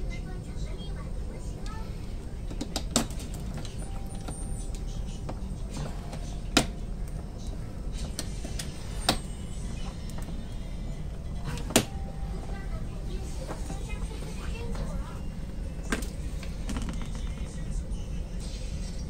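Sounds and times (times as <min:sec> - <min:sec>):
train cabin rumble: 0:00.0 - 0:18.8.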